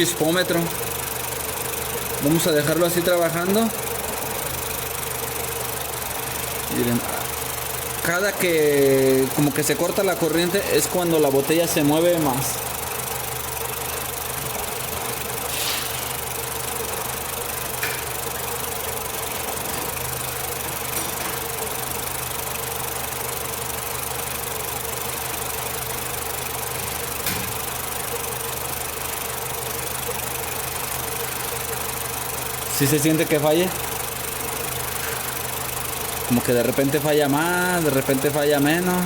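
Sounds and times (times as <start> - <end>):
engine idling roughly with misfire: 0.0 - 39.0.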